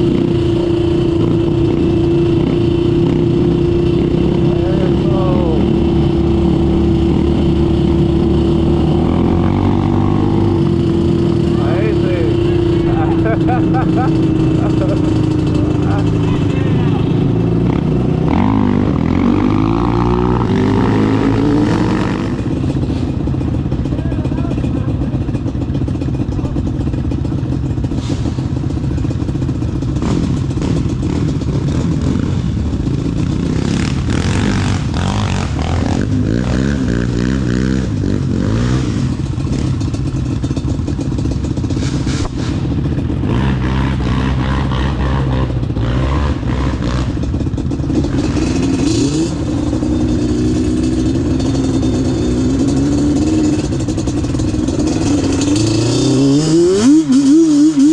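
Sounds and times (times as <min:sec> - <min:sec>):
off-road vehicle engine revving: 0:00.0 - 0:57.9.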